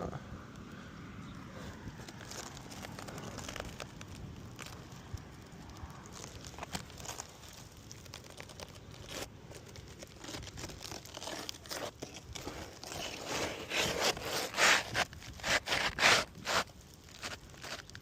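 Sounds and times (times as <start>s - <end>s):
asphalt shingles scraping: 1.5s - 18.0s.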